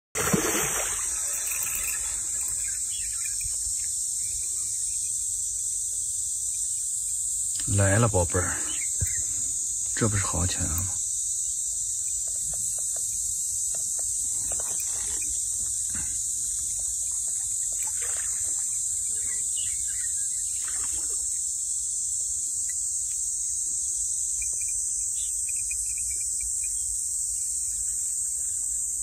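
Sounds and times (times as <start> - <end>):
insect chorus buzzing: 0.2 - 29.0.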